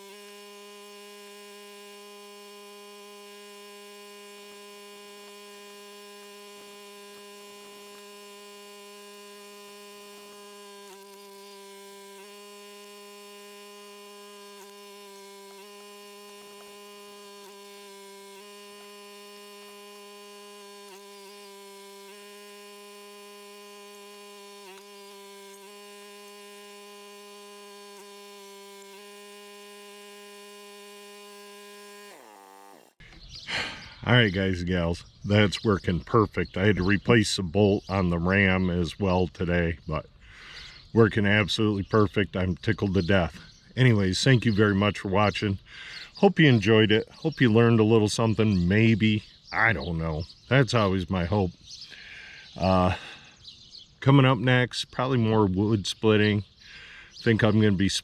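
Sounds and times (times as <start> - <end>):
hydraulic pump humming: 0.0 - 58.0.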